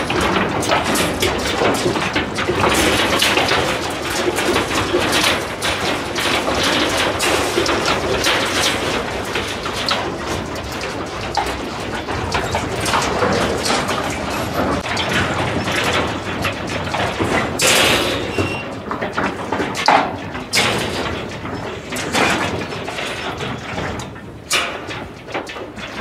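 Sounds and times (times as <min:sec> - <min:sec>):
steel crates knocking and rattling: 0:00.0 - 0:26.0.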